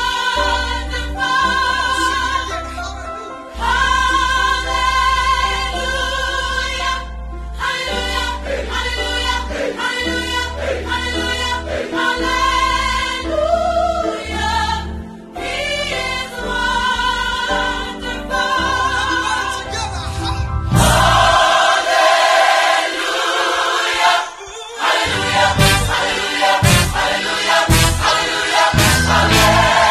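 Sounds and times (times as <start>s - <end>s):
music with singing voices: 0.0s - 29.9s.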